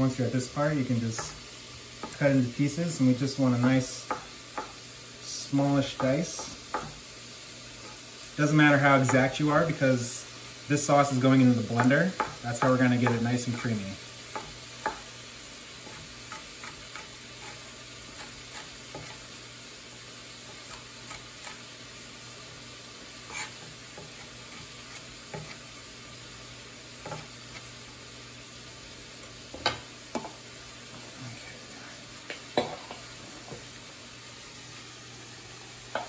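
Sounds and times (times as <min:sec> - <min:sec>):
onions sizzling in a pan: 0:00.0 - 0:36.0.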